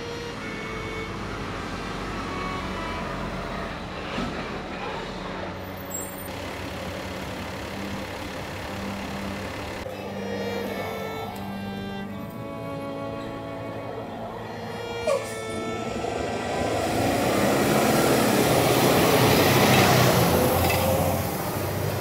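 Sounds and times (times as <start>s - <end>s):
bowed string music: 0.0s - 4.0s, 6.7s - 22.0s
heavy road traffic rumble: 0.0s - 22.0s.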